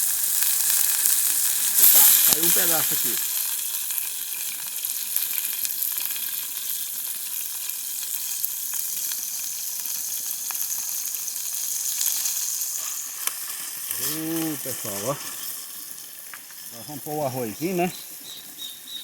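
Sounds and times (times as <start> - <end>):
meat sizzling in oil: 0.0 - 19.0
oil crackles and pops: 0.0 - 19.0.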